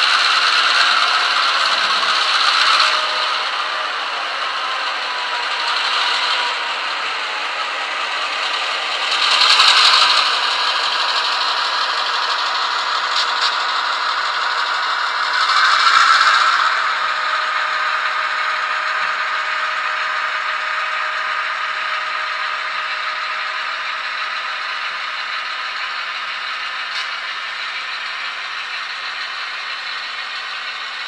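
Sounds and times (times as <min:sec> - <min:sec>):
diesel engine sound from small speaker: 0:00.0 - 0:31.0.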